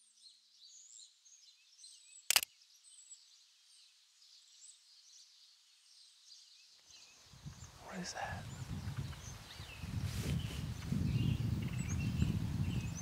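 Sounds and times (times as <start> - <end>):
distant songbirds chirping: 0.0 - 13.0.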